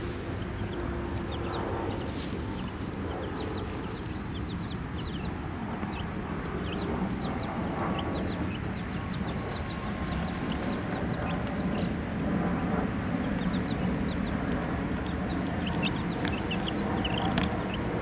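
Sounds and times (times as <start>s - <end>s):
baby chicks peeping: 0.0s - 12.0s, 12.6s - 18.0s.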